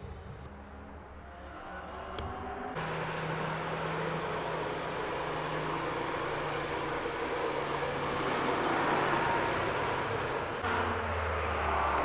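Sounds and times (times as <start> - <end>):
truck engine running: 2.2 - 12.0.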